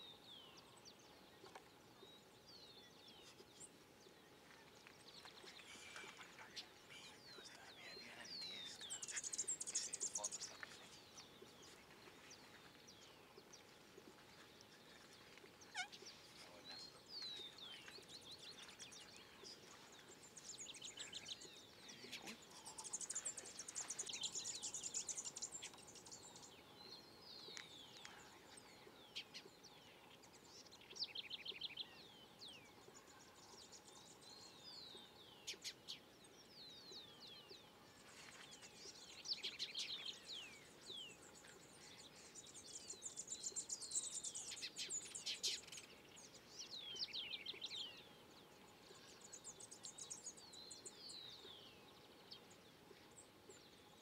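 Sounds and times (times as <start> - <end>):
small songbirds singing: 0.0 - 54.0.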